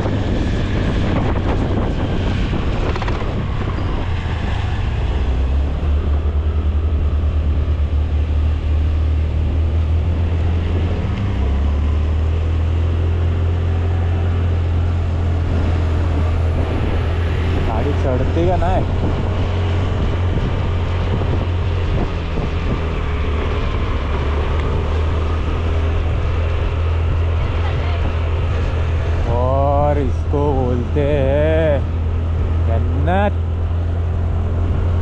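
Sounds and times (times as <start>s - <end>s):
wind buffeting microphone: 0.0s - 32.7s
scooter engine drone: 0.0s - 35.0s.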